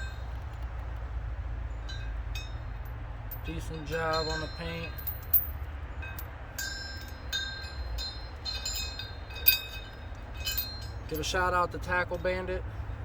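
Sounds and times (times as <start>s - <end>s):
steady low rumble: 0.0s - 13.0s
light metallic clinks: 1.7s - 12.6s.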